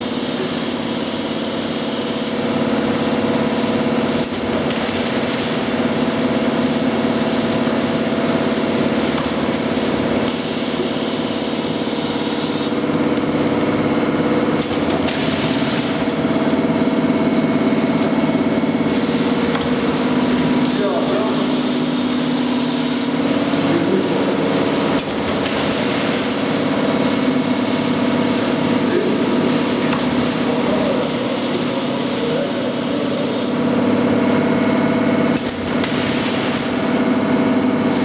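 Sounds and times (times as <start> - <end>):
packaging machine humming: 0.0 - 38.0.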